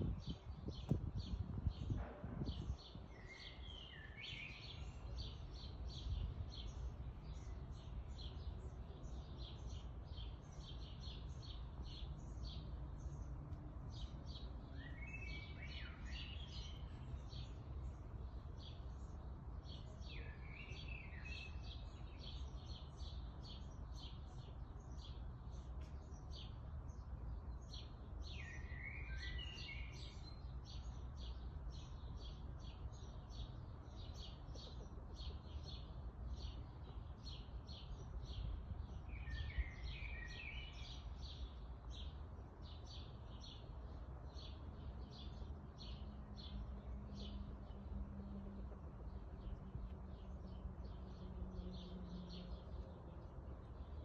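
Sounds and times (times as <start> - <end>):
birds chirping and warbling: 0.0 - 54.0.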